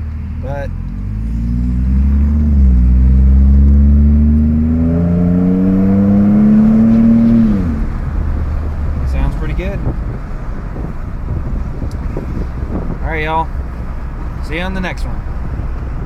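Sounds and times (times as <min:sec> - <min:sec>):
truck engine accelerating: 0:00.0 - 0:16.0.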